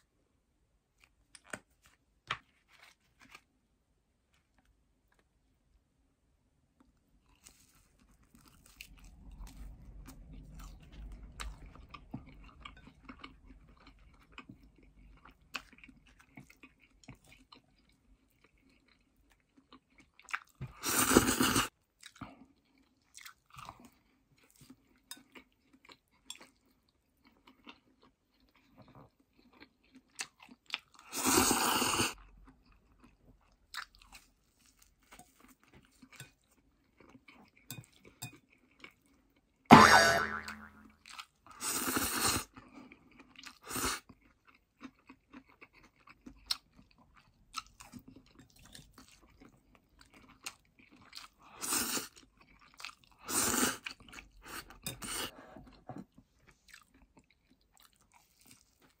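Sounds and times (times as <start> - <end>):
chewing food: 6.8 - 39.7, 41.0 - 59.0.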